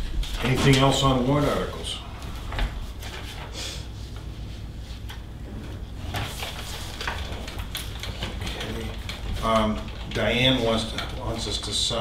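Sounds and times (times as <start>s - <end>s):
paper rustling and shuffling: 0.0s - 12.0s
steady low hum: 0.0s - 12.0s.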